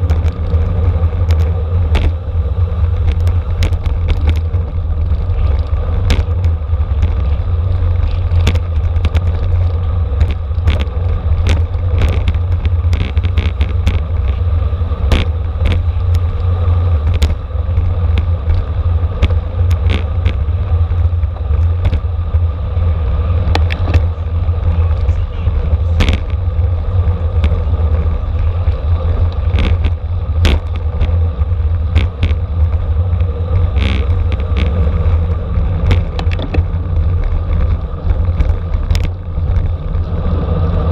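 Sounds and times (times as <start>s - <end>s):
bicycle clicks and knocks: 0.0s - 40.9s
road rumble: 0.0s - 40.9s
wind buffeting: 0.0s - 40.9s.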